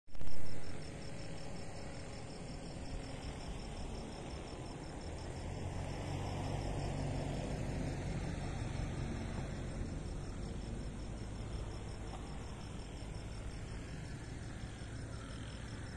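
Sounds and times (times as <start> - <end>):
crickets chirping: 0.1 - 15.9.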